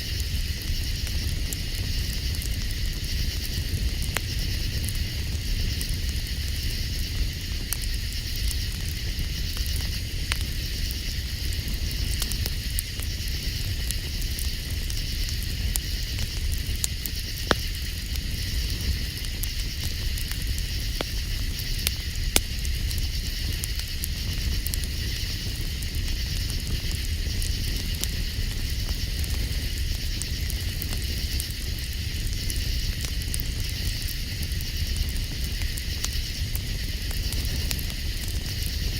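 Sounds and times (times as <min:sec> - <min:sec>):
campfire crackling and popping: 0:00.0 - 0:38.9
constant low rumble: 0:00.0 - 0:38.9
night insects chirring: 0:00.0 - 0:38.9.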